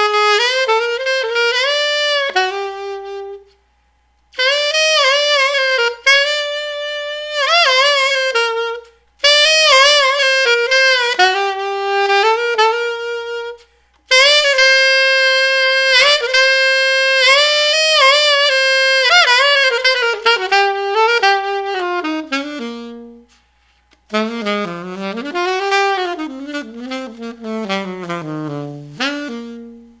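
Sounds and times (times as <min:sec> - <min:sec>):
alto saxophone melody: 0:00.0 - 0:30.0.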